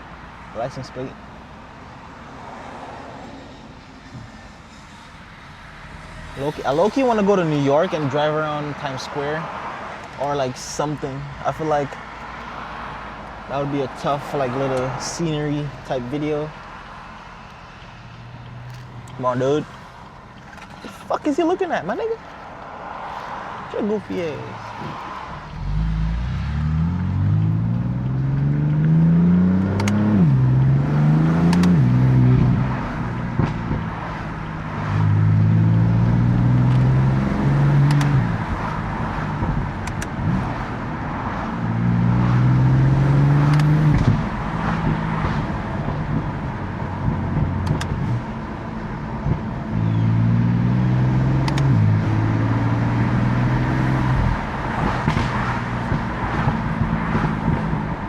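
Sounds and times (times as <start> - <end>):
car engine accelerating: 4.0 - 58.0.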